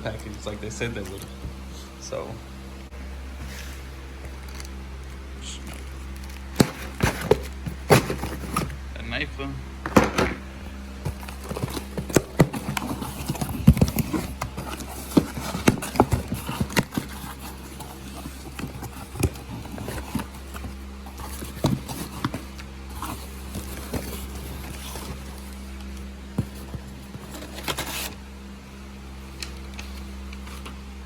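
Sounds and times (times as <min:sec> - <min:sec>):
packaging clicks and scrapes: 0:00.1 - 0:02.2, 0:03.3 - 0:08.9, 0:09.8 - 0:28.6, 0:29.2 - 0:31.0.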